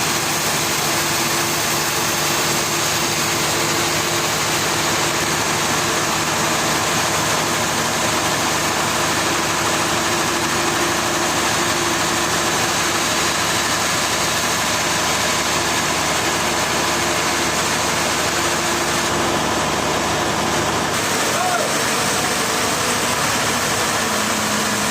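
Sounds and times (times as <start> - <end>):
heavy machinery droning: 0.0 - 24.9.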